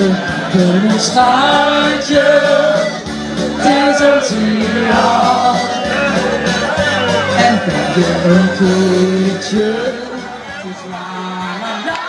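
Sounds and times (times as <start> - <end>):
amplified dance music: 1.0 - 12.0.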